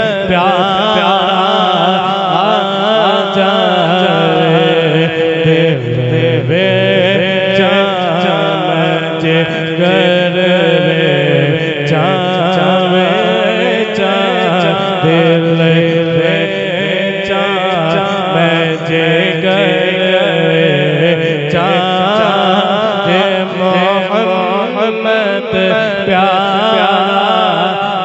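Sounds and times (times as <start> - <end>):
man singing into microphone: 0.0 - 28.0.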